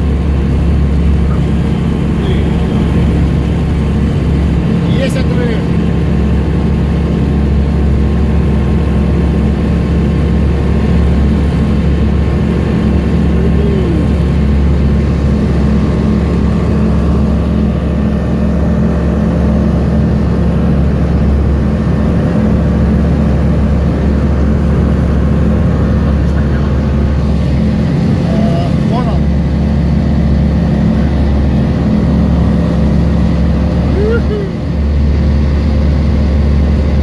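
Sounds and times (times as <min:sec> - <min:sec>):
light aircraft piston engine: 0:00.0 - 0:37.0.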